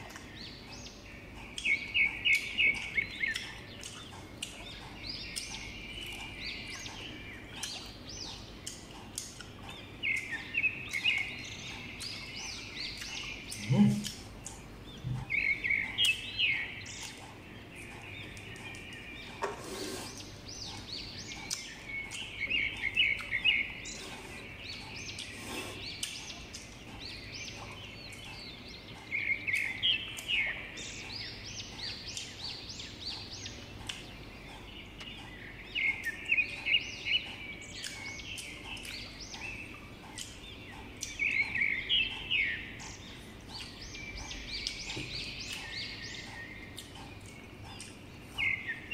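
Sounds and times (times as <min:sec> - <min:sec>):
chewing crisp fruit crunches: 0:01.4 - 0:30.3, 0:33.2 - 0:42.1, 0:42.8 - 0:48.8.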